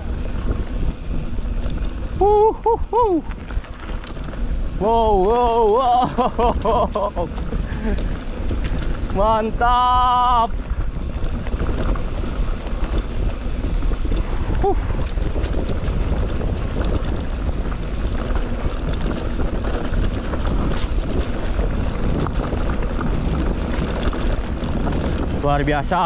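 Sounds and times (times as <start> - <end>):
bike rattling: 0.0 - 26.0
low rumble of tyres: 0.0 - 26.0
wind rushing over microphone: 0.0 - 26.0.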